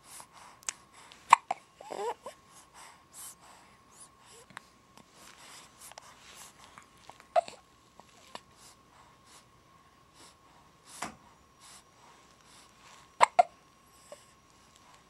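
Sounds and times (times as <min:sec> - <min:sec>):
soft breaths: 0:00.0 - 0:15.0.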